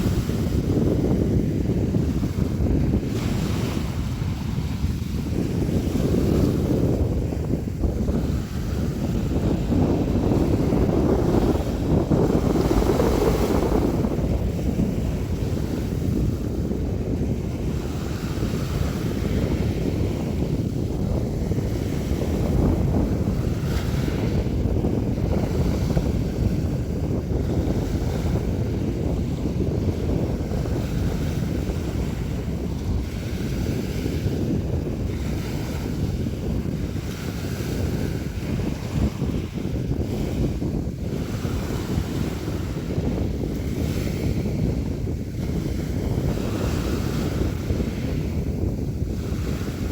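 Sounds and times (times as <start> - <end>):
sea waves breaking: 0.0 - 49.9
wind rumble on microphone: 0.0 - 49.9.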